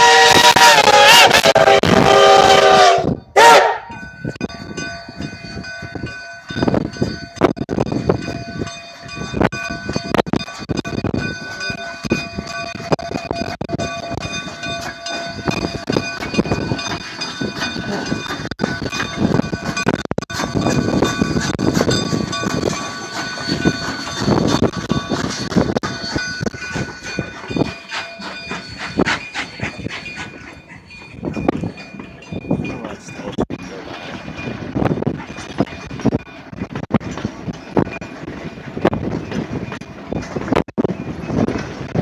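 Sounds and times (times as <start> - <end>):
steam train puffs and clanks: 0.0 - 42.0.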